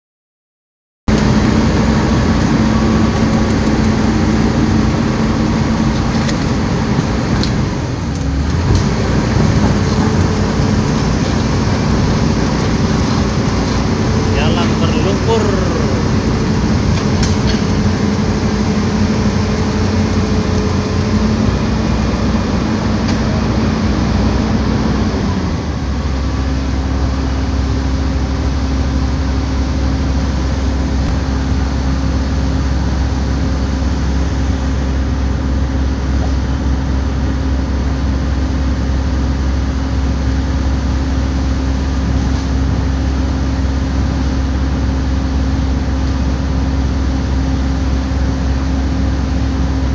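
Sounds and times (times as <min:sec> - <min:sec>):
bulldozer diesel engine under load: 0:01.1 - 0:49.9
tracks and machinery noise: 0:01.1 - 0:49.9.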